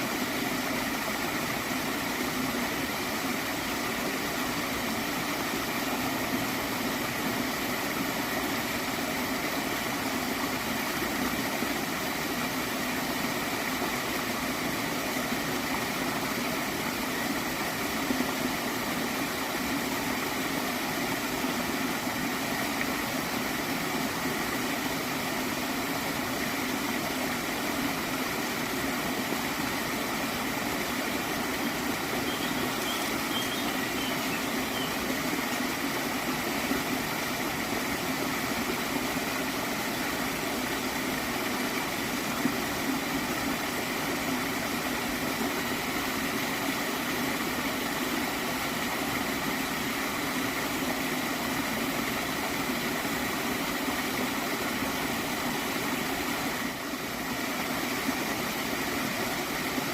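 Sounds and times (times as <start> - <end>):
stream water gurgling: 0.0 - 59.9.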